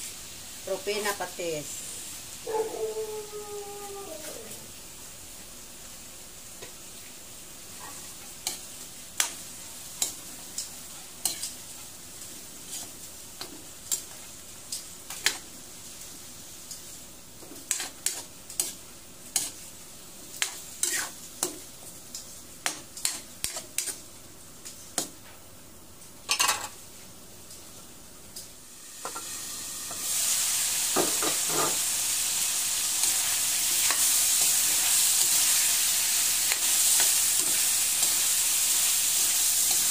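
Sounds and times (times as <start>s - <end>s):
chicken sizzling: 0.0s - 39.9s.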